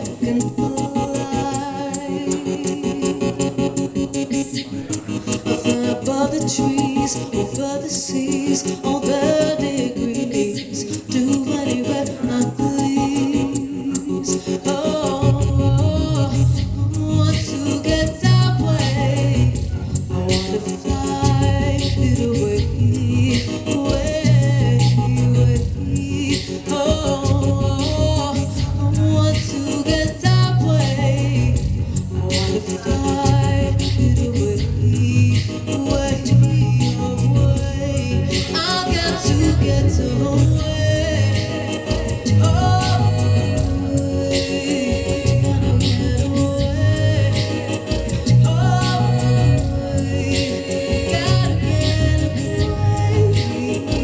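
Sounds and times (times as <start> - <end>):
live band playing: 0.0 - 54.0
person singing: 0.0 - 54.0.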